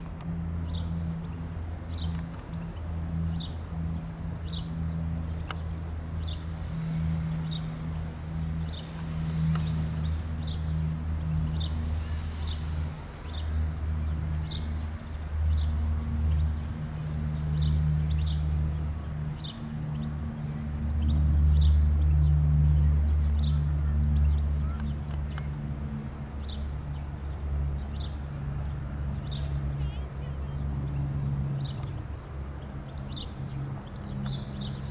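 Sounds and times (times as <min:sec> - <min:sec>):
turboprop aircraft engines droning: 0:00.0 - 0:34.9.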